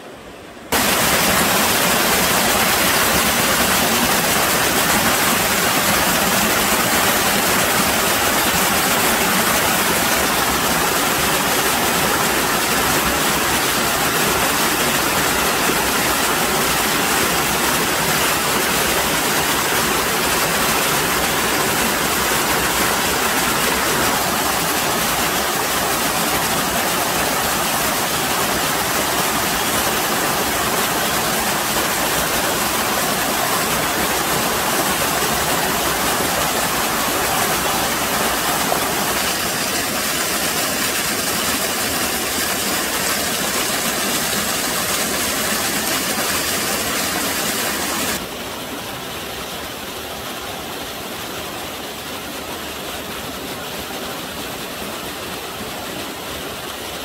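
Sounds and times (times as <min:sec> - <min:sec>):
stream water rushing over boulders: 0:00.0 - 0:57.0.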